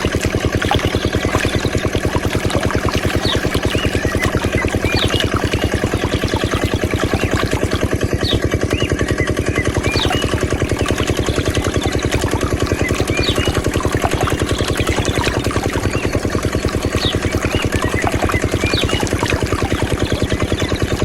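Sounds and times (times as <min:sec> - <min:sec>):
small diesel engine running: 0:00.0 - 0:21.0.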